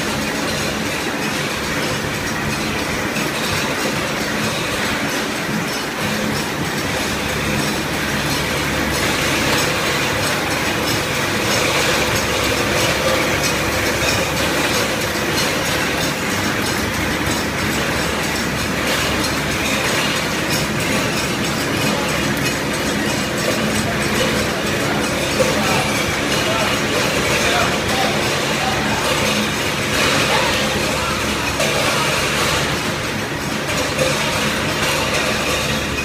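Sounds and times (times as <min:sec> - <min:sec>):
machine mechanical clatter: 0:00.0 - 0:36.0.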